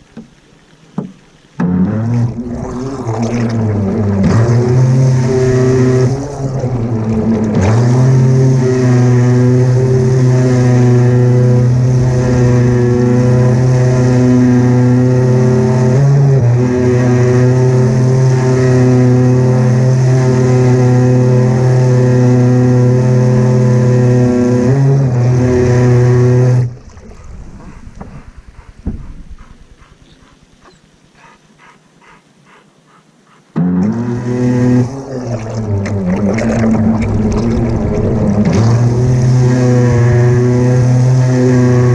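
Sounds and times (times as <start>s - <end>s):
water rushing: 0.0s - 41.9s
model boat motor running: 1.6s - 26.9s, 33.6s - 41.9s.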